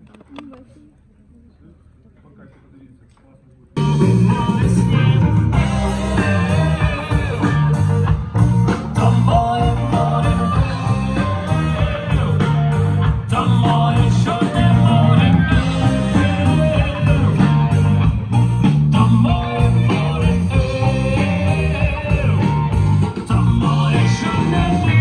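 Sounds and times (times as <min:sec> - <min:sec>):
live rock band: 0:03.8 - 0:25.0
prominent bass line: 0:03.8 - 0:25.0.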